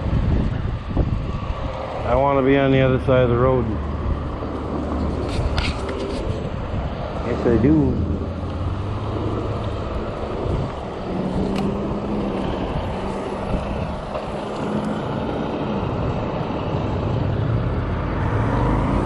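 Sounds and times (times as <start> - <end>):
road traffic hum: 0.0 - 19.0
wind on microphone: 0.0 - 19.0.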